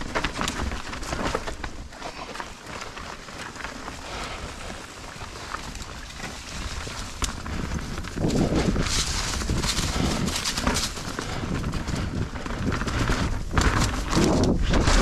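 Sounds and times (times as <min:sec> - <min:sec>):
bike rattling: 0:00.0 - 0:15.0
low wind rumble: 0:00.0 - 0:15.0
tyres crackling over dirt: 0:00.0 - 0:15.0.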